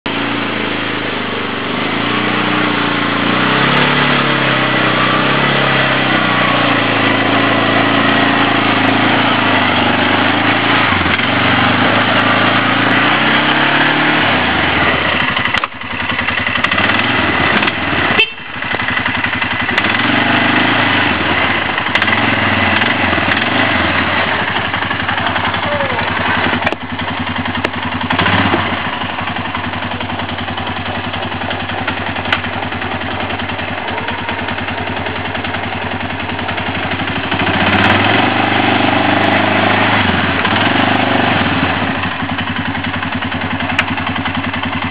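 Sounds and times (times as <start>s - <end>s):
quad engine running under load: 0.0s - 44.9s.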